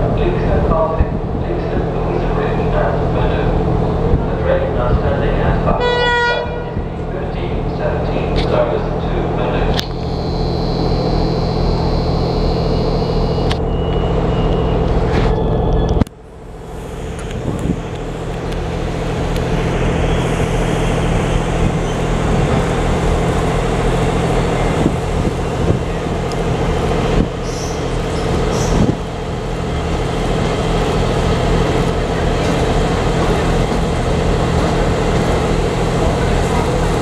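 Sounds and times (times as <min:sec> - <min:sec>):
diesel locomotive engine running: 0:00.0 - 0:37.0.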